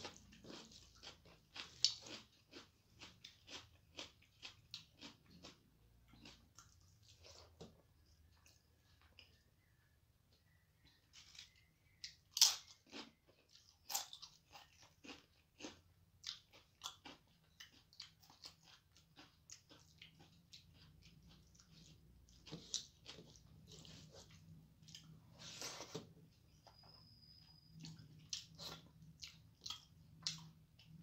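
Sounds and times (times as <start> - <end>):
chewing and mouth clicks: 0.0 - 9.7, 10.4 - 25.3, 26.5 - 31.0.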